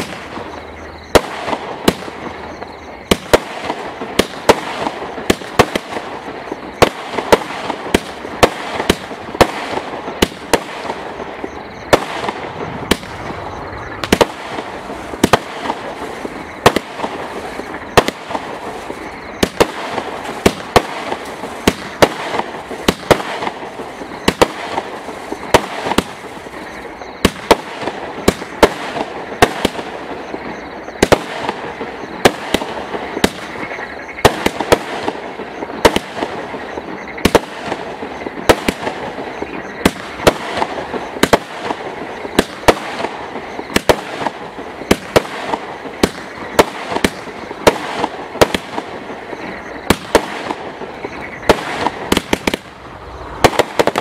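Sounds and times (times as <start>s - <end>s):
firework bangs: 0.0s - 54.0s
steady firework hiss: 0.0s - 54.0s.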